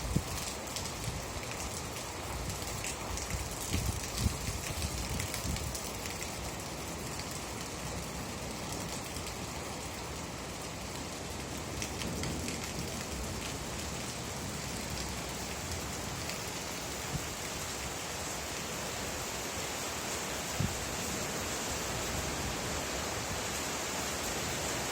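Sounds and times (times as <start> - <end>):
rain falling on a surface: 0.0 - 24.9.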